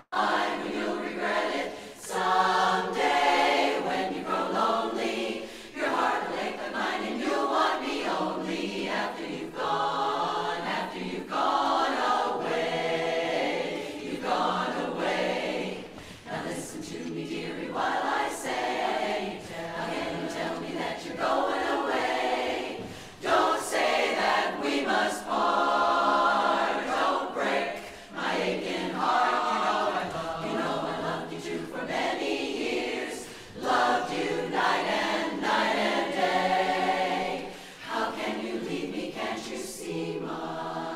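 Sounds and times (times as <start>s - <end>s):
women's chorus singing a cappella: 0.0s - 40.9s.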